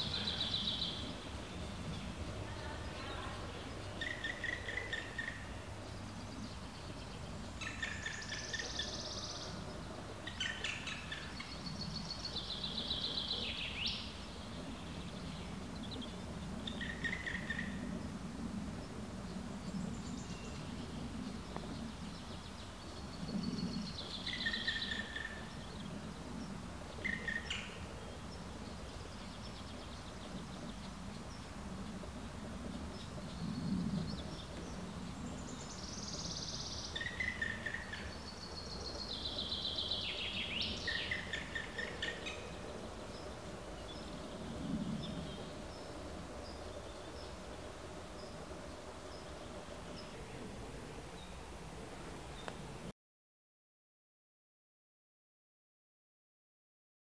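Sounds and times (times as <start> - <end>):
low background noise: 0.0 - 52.9.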